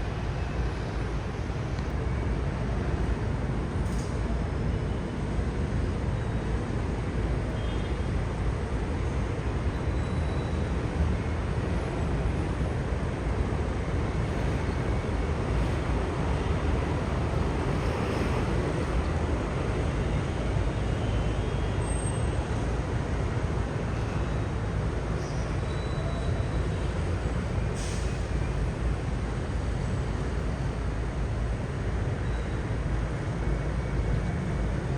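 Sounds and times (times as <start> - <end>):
road traffic hum: 0.0 - 34.9.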